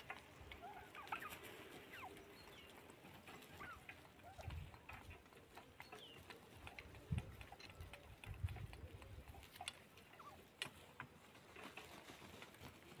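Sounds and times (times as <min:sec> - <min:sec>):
turkey soft calls: 0:00.0 - 0:13.0
turkeys pecking on dry ground: 0:00.0 - 0:13.0.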